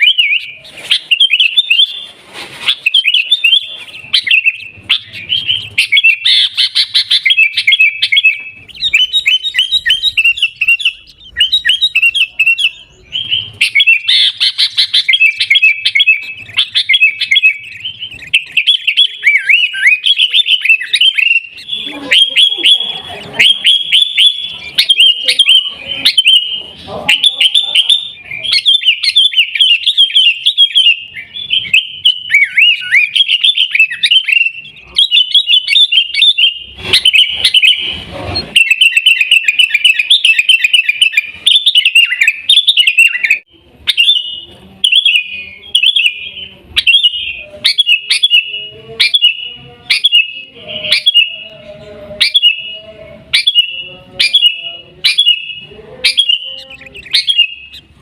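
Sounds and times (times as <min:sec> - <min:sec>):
bulbul calling: 0:00.0 - 0:57.9.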